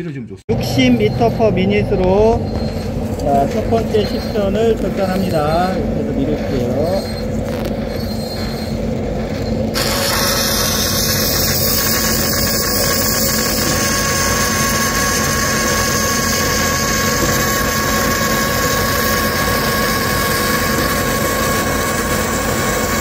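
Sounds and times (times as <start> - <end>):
band saw cutting metal: 0.5 - 23.0
machine running hum: 0.5 - 23.0.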